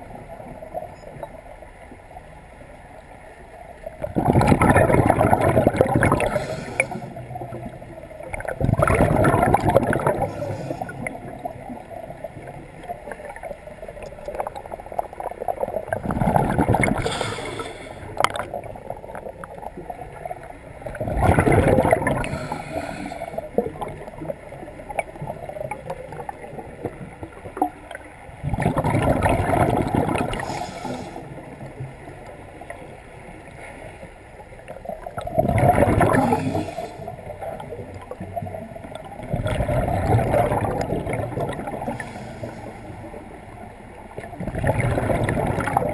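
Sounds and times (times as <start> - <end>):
underwater noise: 0.0 - 45.9
underwater bubbles from exhaling: 4.0 - 32.9, 34.7 - 45.9.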